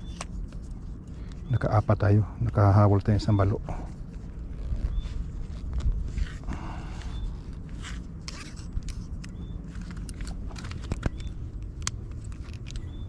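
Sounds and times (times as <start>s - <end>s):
sharp clicks and scrapes: 0.0s - 1.8s, 3.9s - 13.0s
low outdoor rumble: 0.0s - 13.0s.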